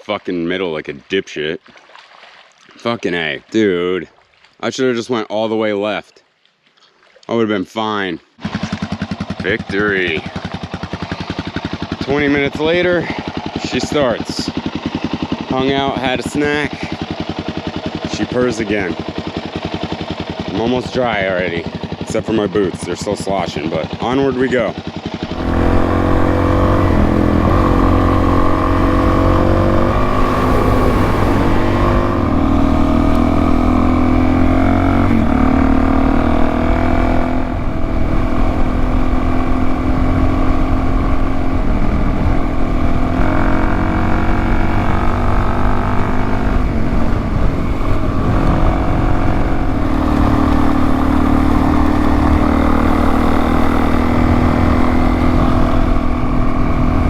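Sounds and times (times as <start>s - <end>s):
motorcycle engine revving: 8.4s - 57.0s.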